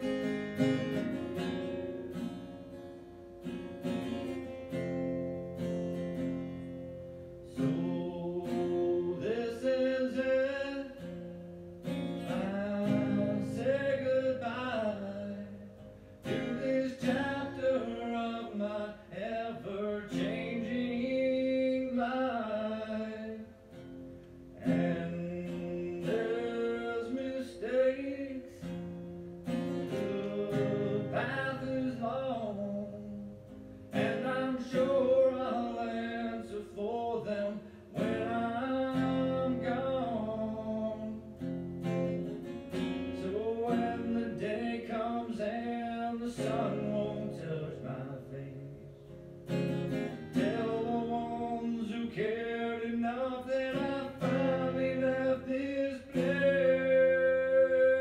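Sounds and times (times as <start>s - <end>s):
strummed acoustic guitar: 0.0s - 58.0s
man singing: 7.3s - 23.8s, 24.4s - 49.2s, 49.9s - 58.0s.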